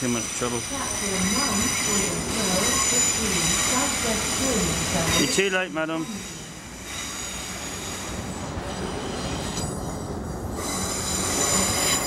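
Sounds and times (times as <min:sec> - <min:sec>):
train wheels squealing: 0:00.0 - 0:12.0.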